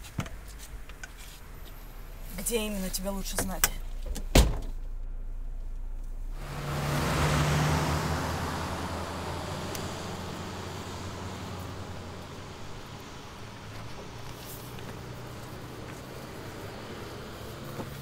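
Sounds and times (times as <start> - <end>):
car passing on road: 0.7 - 3.2, 4.7 - 18.0.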